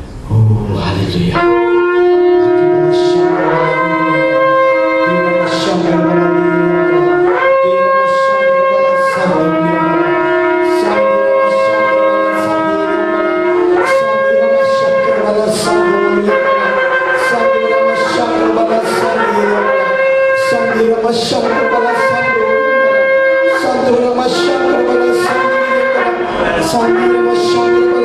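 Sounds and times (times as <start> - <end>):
shofars blowing long blasts: 1.4 - 28.0.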